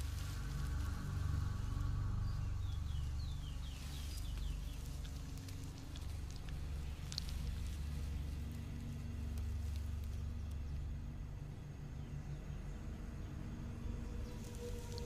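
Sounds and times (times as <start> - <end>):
insects buzzing: 0.0 - 15.0
low rumble: 0.0 - 15.0.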